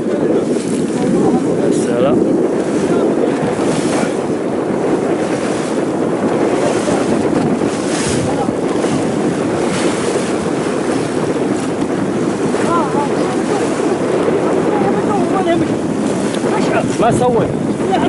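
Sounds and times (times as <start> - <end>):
rush of water: 0.0 - 18.0
wind buffeting microphone: 0.0 - 18.0.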